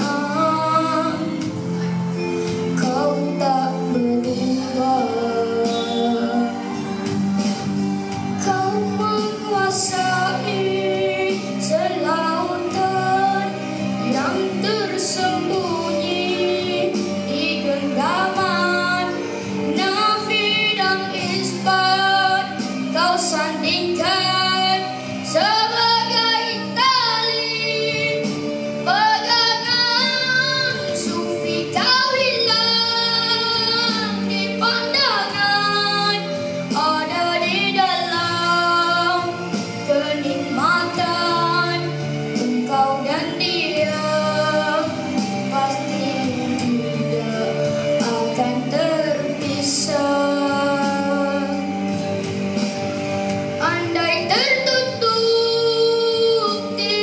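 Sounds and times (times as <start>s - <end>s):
boy singing into a microphone: 0.0s - 6.9s, 8.4s - 52.0s, 53.5s - 57.0s
instrumental accompaniment: 0.0s - 57.0s.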